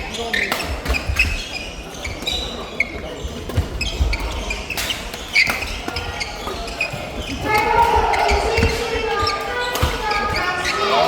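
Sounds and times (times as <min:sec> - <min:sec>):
shoe squeaks on court floor: 0:00.0 - 0:11.0.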